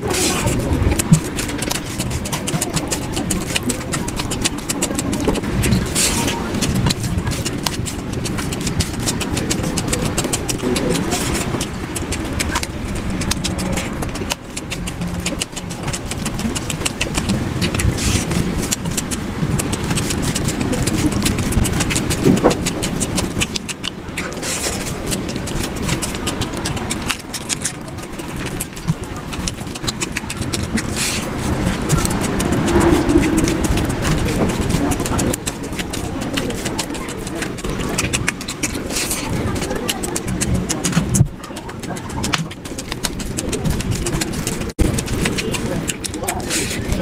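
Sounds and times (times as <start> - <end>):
fingers squelching through food: 0.0 - 47.0
loud smacking chewing: 0.0 - 47.0
sharp mouth clicks: 0.0 - 47.0.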